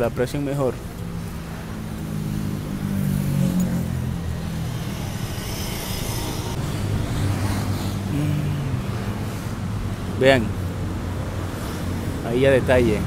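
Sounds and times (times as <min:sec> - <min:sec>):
vehicle engines running: 0:00.0 - 0:13.0
motorcycle passing: 0:00.8 - 0:13.0.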